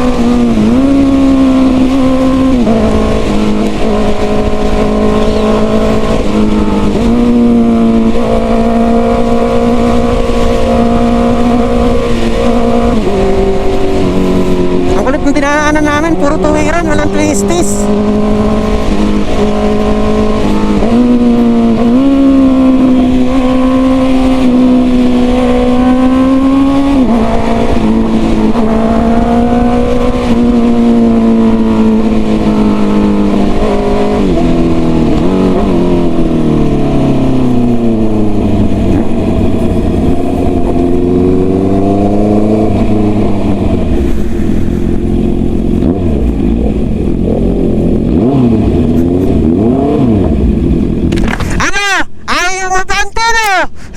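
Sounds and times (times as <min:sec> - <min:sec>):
motorcycle engine running: 0:00.0 - 0:52.2.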